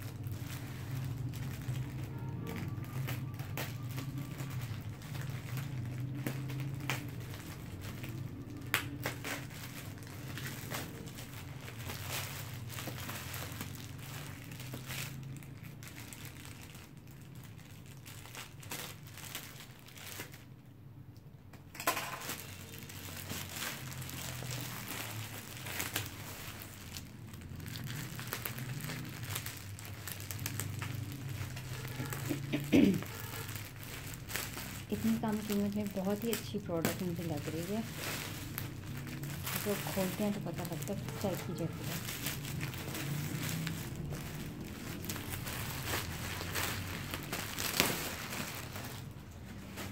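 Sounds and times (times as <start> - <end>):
plastic wrap crinkling: 0.0 - 20.7, 21.6 - 49.9.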